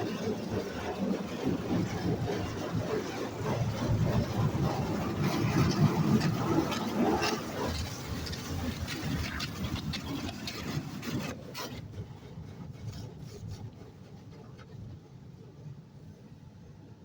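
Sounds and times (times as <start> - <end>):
water jets spraying against car: 0.0 - 16.4.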